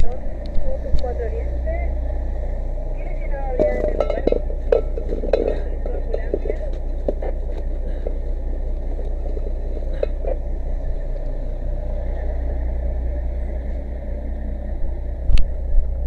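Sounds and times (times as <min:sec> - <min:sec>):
fire engine rumbling: 0:00.0 - 0:16.0.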